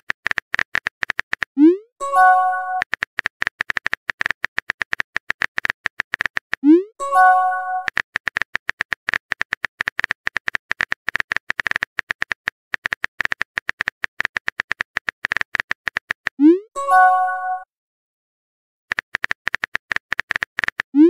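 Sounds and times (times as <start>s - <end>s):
phone keyboard typing clicks: 0.0s - 16.4s, 18.9s - 21.0s.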